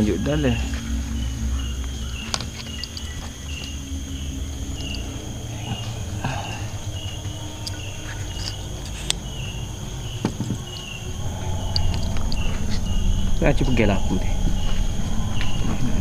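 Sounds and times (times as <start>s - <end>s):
insect chirp: 0.0s - 16.0s
insect high-pitched drone: 0.0s - 16.0s.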